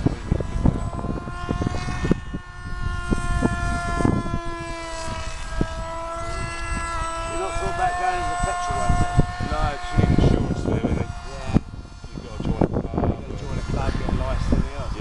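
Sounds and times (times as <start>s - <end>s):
model plane motor whining: 0.0s - 15.0s
wind buffeting microphone: 0.0s - 15.0s.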